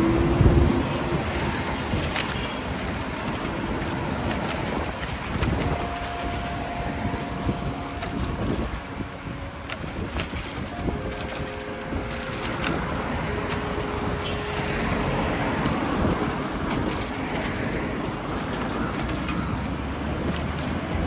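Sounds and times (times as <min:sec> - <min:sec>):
passing road traffic: 0:00.0 - 0:21.0.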